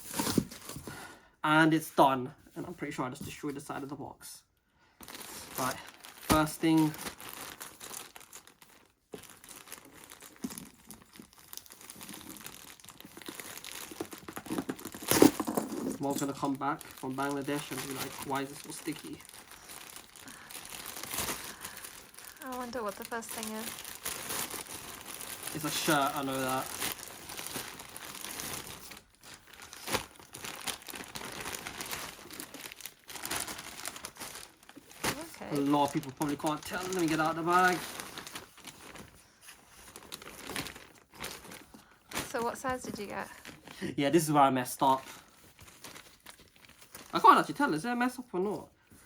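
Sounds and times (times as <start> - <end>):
packaging crinkling and rustling: 0.0 - 1.0, 5.0 - 49.0.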